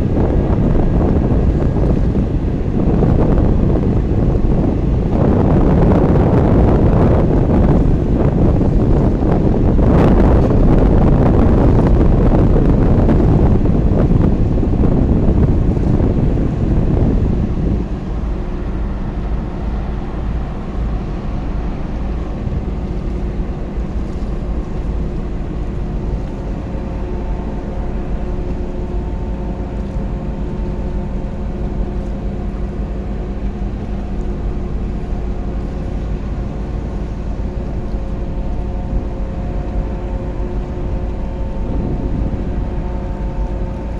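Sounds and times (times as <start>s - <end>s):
boat engine running: 0.0s - 43.9s
wind noise on microphone: 0.0s - 43.9s.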